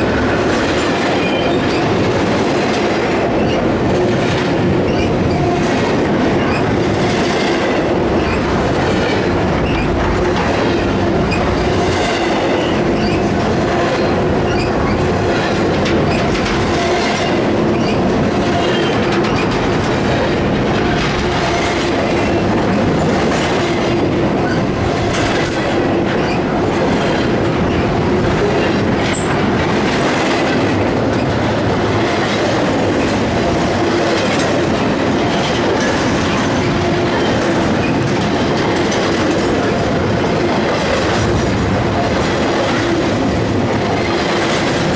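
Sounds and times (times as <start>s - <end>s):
clicking over rail joints: 0.0s - 44.9s
steel wheels rumbling on rail: 0.0s - 44.9s.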